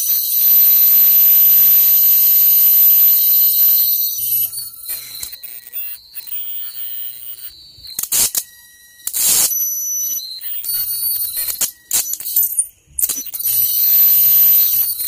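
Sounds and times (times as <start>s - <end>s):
high-pitched electronic tones: 0.0s - 15.0s.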